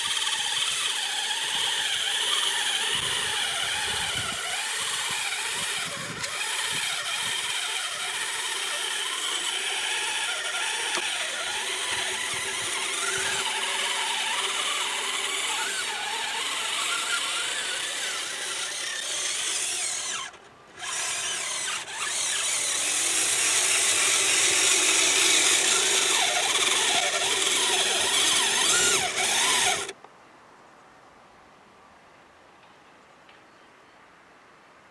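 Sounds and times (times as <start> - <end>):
electric motor and gearbox whining: 0.0 - 30.0.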